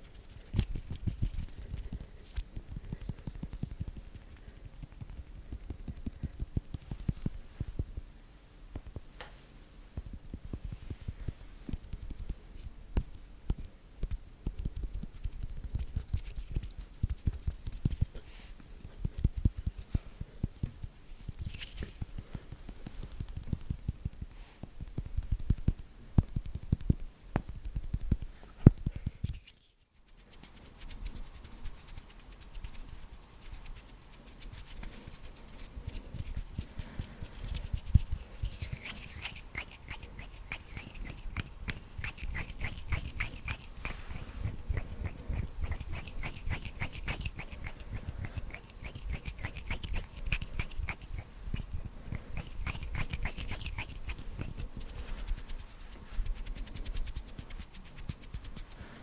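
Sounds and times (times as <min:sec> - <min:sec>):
hands rubbing and tapping: 0:00.0 - 0:08.1, 0:08.7 - 0:59.0.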